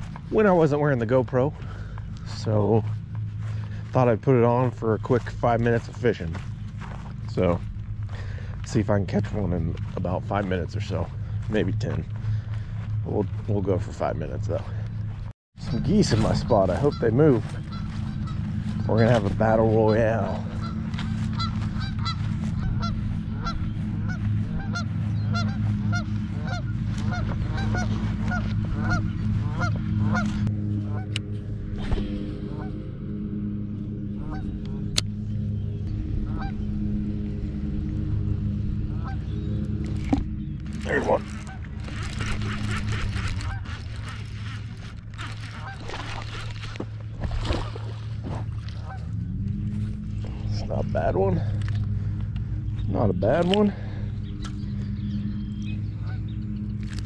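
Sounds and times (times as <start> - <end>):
geese honking: 0.0 - 57.0
steady low hum: 0.0 - 57.0.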